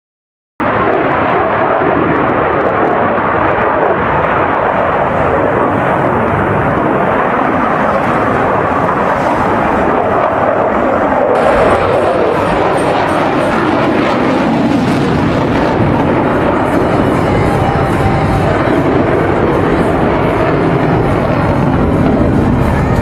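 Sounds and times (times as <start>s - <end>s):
aircraft engine noise: 0.6s - 23.0s.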